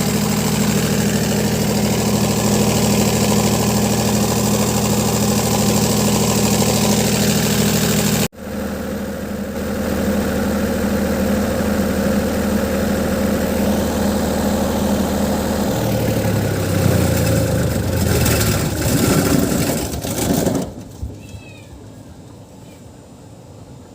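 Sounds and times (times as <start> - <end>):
generator engine running: 0.0 - 20.8.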